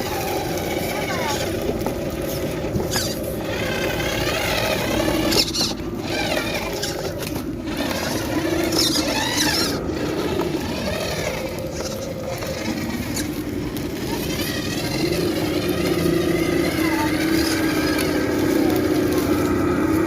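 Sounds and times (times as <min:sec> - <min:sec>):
rc truck motor whining: 0:00.0 - 0:20.0.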